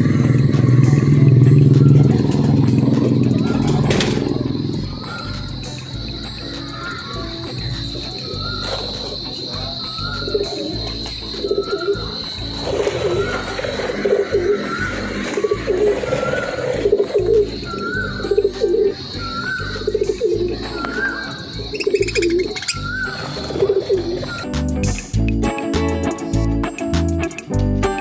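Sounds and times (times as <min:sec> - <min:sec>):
doves cooing: 0:00.0 - 0:24.6
background music: 0:00.0 - 0:28.0.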